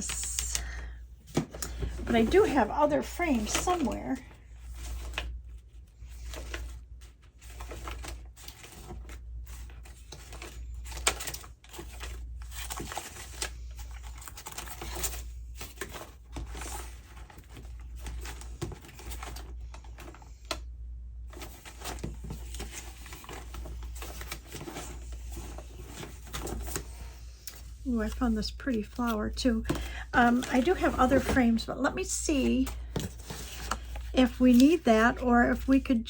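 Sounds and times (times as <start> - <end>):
paper rustling: 0.0 - 20.6, 21.3 - 35.7
low steady hum: 0.0 - 36.0.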